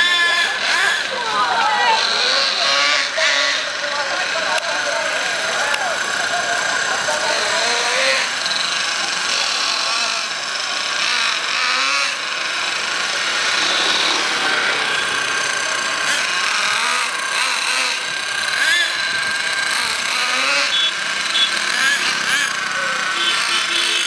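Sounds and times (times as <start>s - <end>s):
small nitro engine buzzing: 0.0s - 24.0s.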